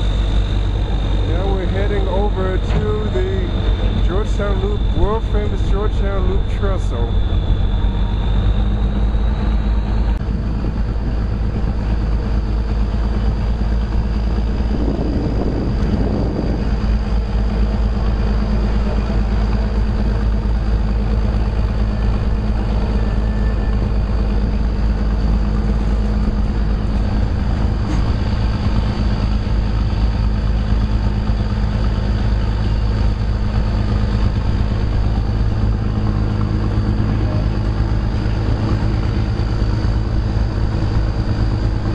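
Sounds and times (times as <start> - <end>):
locomotive engine drone: 0.0 - 41.9
train cars rumbling on track: 0.0 - 41.9.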